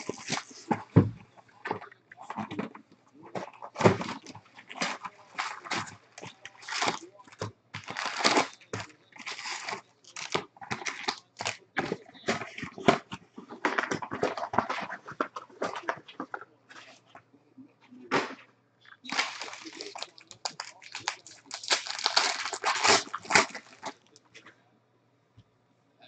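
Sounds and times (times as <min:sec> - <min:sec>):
foil wrappers crinkling: 0:00.0 - 0:16.5, 0:19.0 - 0:24.2.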